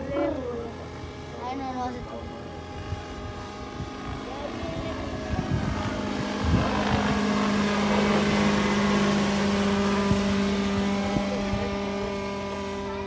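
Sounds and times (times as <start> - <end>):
model helicopter engine running: 0.0 - 13.0.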